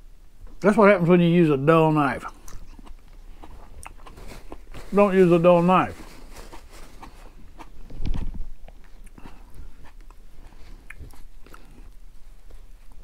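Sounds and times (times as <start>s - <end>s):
wet clicks and rustles of food: 2.2s - 13.0s.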